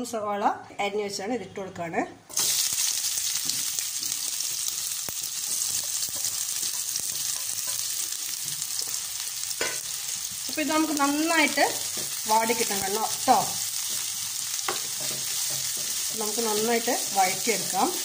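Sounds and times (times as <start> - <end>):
onions sizzling in hot oil: 2.3 - 18.0.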